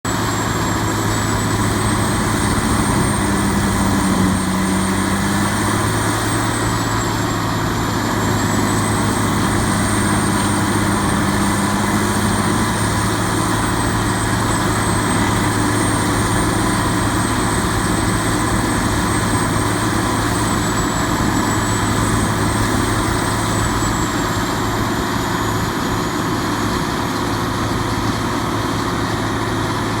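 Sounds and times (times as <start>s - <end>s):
diesel engine humming: 0.0s - 30.0s
high whine: 0.1s - 30.0s.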